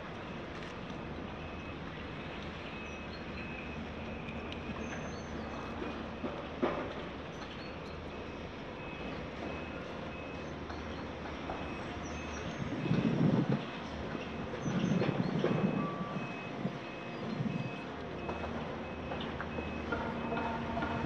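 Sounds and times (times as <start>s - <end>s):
heavy diesel machinery running: 0.1s - 21.0s
truck reversing beeper: 1.2s - 6.8s, 7.6s - 13.4s, 14.1s - 21.0s.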